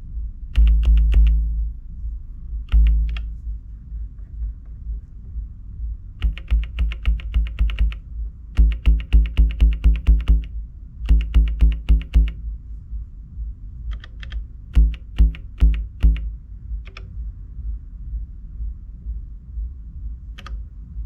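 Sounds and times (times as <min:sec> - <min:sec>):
sampled synth bass line: 0:00.0 - 0:21.0.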